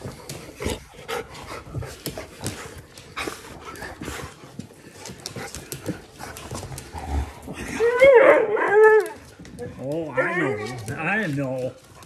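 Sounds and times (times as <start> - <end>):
dogs panting: 0.0 - 8.1, 9.2 - 12.0.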